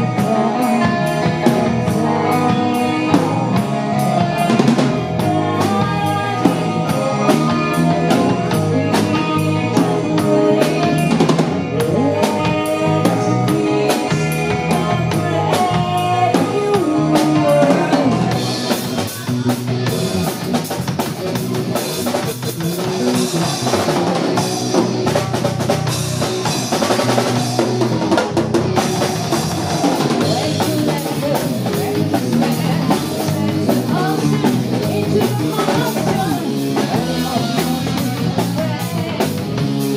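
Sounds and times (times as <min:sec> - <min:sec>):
drum kit beat: 0:00.0 - 0:39.9
electric bass line: 0:00.0 - 0:39.9.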